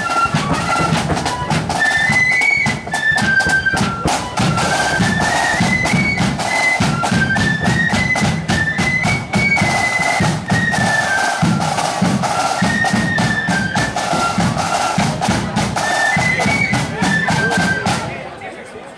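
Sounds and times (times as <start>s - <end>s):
high flute melody: 0.0s - 18.2s
side drum beats: 0.0s - 18.3s.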